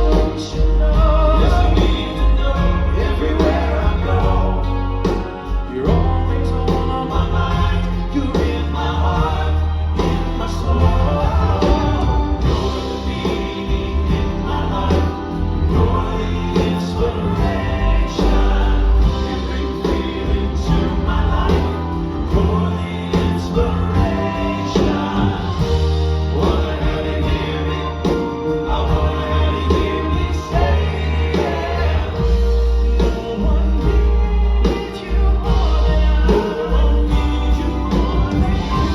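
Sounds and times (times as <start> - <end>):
live band with steady beat: 0.0 - 38.9
male vocal group singing harmony: 0.0 - 38.9.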